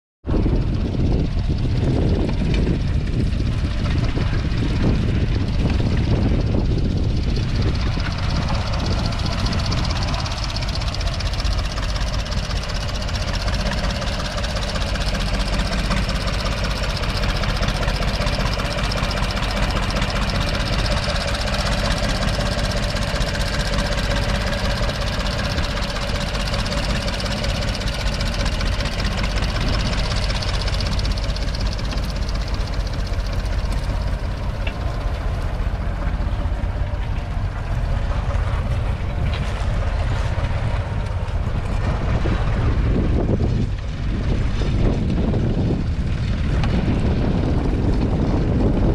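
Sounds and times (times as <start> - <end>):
tractor diesel engine running: 0.2 - 48.9.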